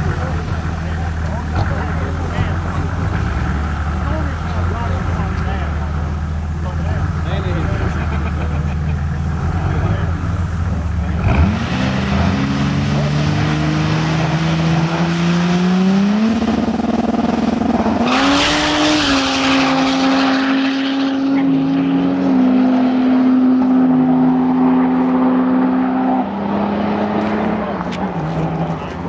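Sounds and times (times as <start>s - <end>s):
diesel engine revving: 0.0s - 29.0s.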